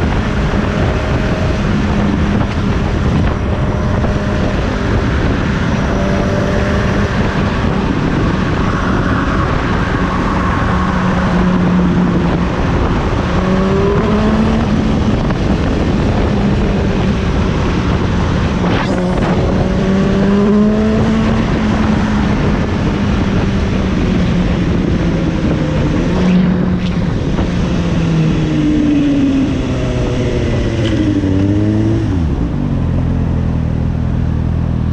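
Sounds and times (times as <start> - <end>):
motorcycle engine revving: 0.0 - 33.9
wind and road noise: 0.0 - 34.9.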